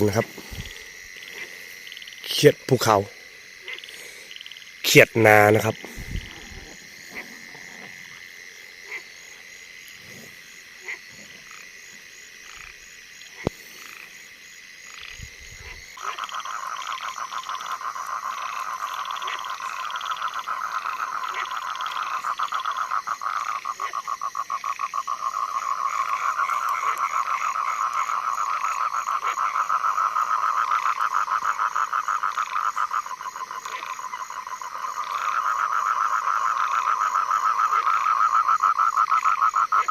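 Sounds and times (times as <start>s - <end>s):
fast-pulsing frog call: 0.0s - 9.4s, 14.8s - 39.9s
faint high frog call: 0.0s - 39.9s.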